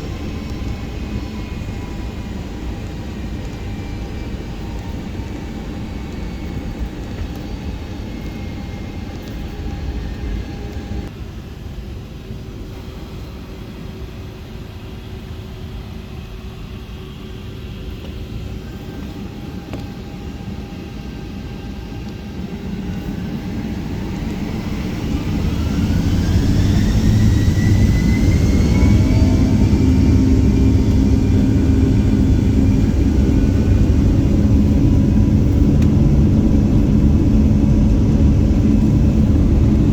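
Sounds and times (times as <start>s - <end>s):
jet engine whine rising: 0.0s - 11.1s, 12.3s - 39.9s
jet engine rumble in cabin: 0.0s - 39.9s.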